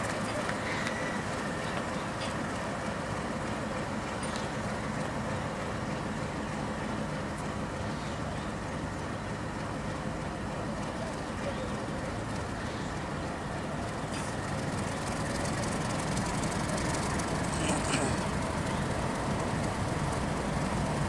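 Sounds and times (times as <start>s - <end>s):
diesel train rumbling: 0.0s - 21.0s.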